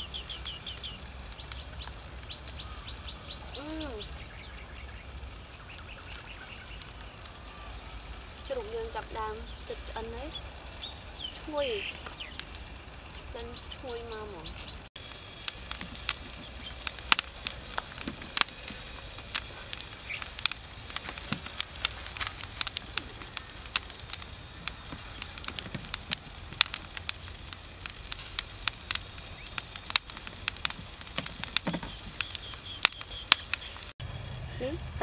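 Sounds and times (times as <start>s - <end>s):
charcoal fire crackling and popping: 0.0s - 35.0s.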